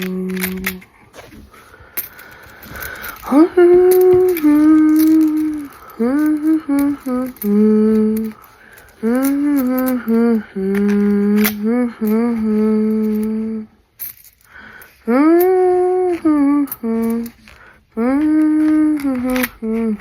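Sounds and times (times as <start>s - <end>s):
person humming a tune: 0.0s - 1.3s, 2.7s - 13.7s, 15.0s - 20.0s.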